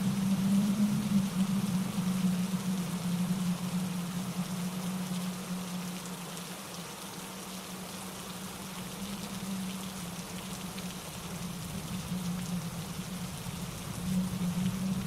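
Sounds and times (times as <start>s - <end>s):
constant low rumble: 0.0s - 6.6s, 7.2s - 15.0s
rain drops ticking: 0.0s - 15.0s.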